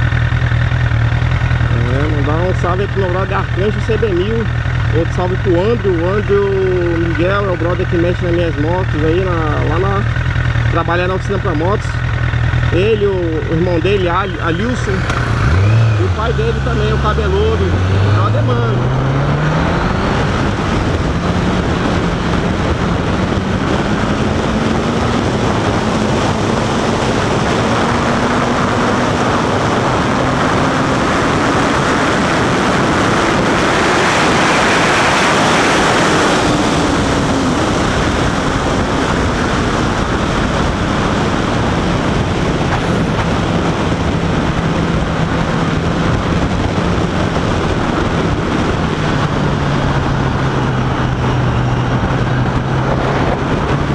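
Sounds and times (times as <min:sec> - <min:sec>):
motorcycle engine running: 0:00.0 - 0:53.9
wind rush on microphone: 0:00.0 - 0:53.9.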